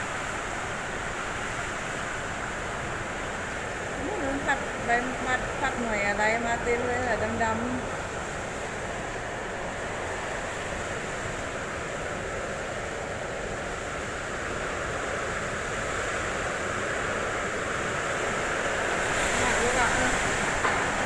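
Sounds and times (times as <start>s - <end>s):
heavy rain: 0.0s - 21.0s
strong wind: 0.0s - 21.0s.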